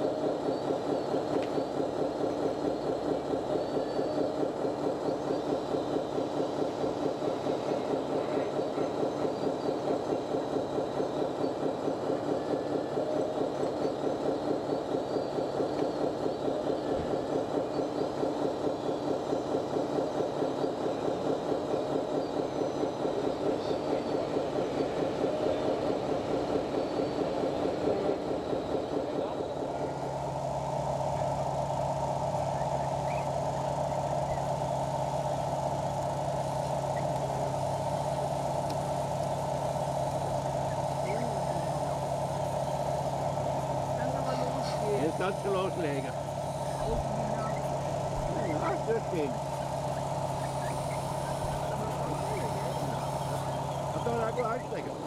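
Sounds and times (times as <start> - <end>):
model diesel engine sound idling: 0.0 - 55.0.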